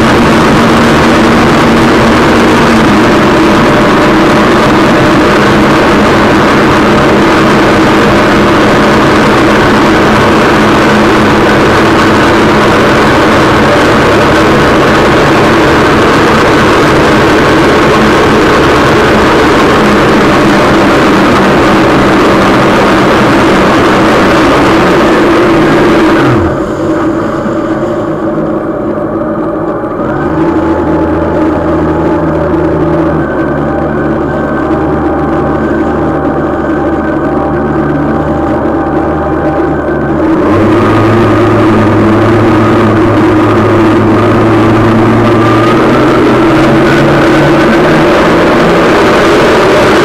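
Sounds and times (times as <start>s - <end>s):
watercraft engine running: 0.0s - 50.0s.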